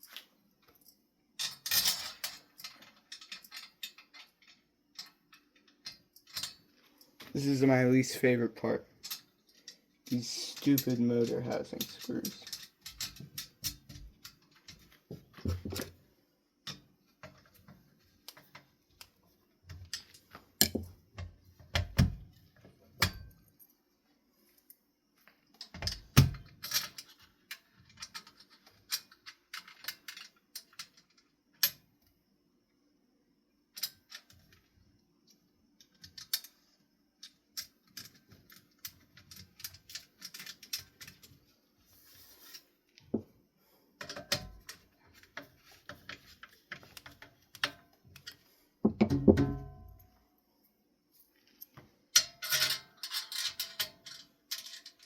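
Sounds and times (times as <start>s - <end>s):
small metal parts clinking: 0.0s - 16.0s, 16.6s - 23.8s, 24.5s - 31.8s, 33.7s - 41.5s, 44.0s - 48.6s, 51.3s - 55.0s.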